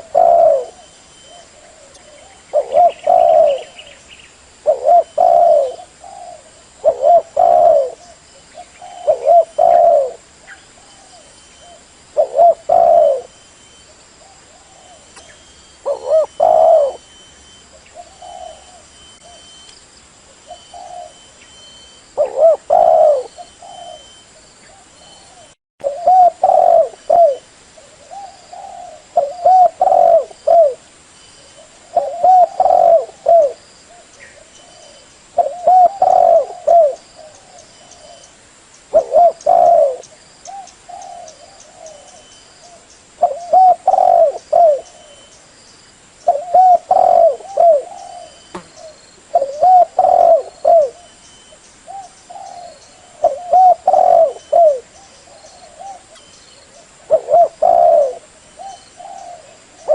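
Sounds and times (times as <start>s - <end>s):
dove cooing: 0.0s - 4.0s, 4.6s - 13.4s, 14.2s - 19.6s, 20.3s - 30.8s, 31.4s - 38.3s, 38.9s - 45.3s, 46.2s - 59.9s.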